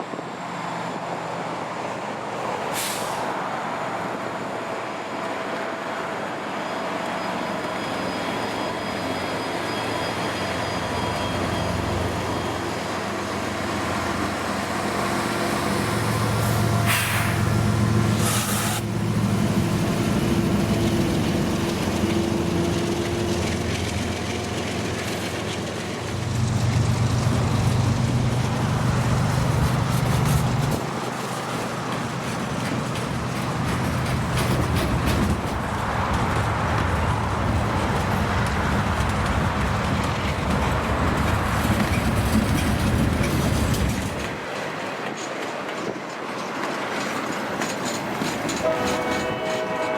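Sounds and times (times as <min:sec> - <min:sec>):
moving train noise: 0:00.0 - 0:49.9
locomotive engine drone: 0:03.6 - 0:44.4.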